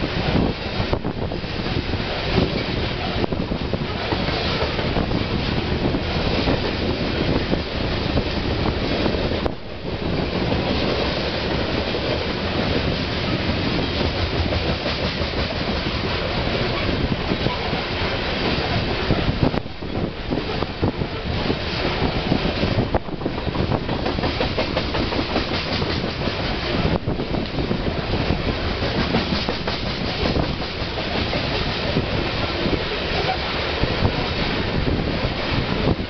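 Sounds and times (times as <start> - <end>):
freight train wheels clattering: 0.1 - 35.9.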